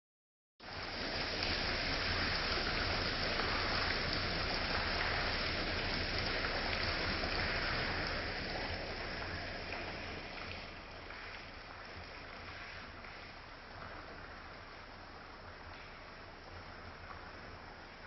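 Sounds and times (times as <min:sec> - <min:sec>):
stream babbling over rocks: 0:00.6 - 0:18.0.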